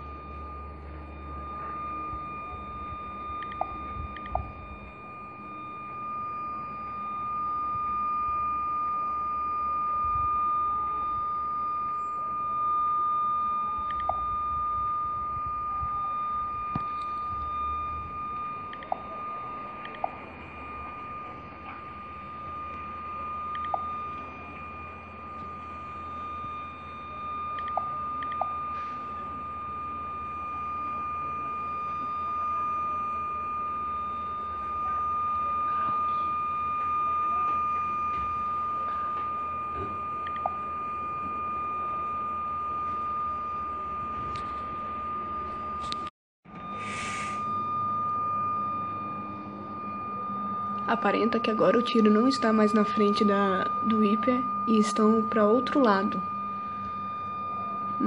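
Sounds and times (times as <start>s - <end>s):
steady high-pitched tone: 0.0s - 58.0s.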